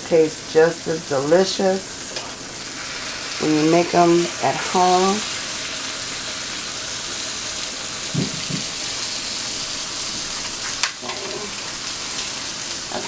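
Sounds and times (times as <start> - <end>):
sausages sizzling in frying pan: 0.0 - 13.0.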